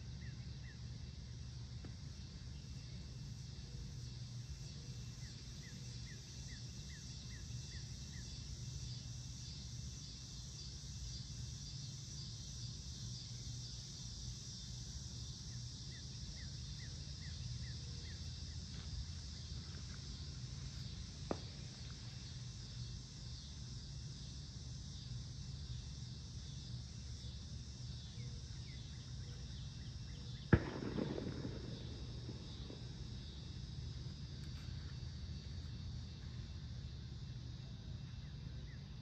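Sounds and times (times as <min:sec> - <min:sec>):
insects humming: 0:00.0 - 0:39.0.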